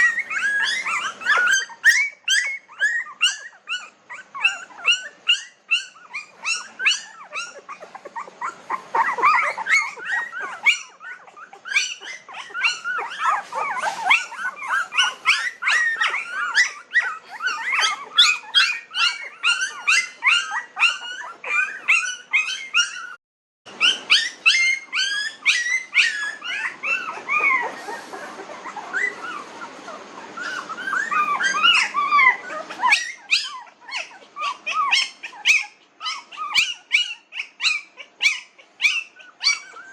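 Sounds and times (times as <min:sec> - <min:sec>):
puppies whimpering and squeaking: 0:00.0 - 0:39.9.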